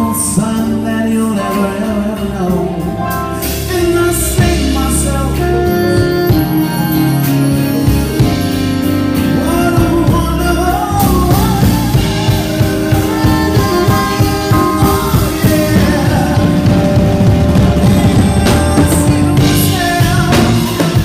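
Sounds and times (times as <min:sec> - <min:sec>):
drum kit: 0:00.0 - 0:21.0
live band playing: 0:00.0 - 0:21.0
person singing: 0:00.0 - 0:21.0.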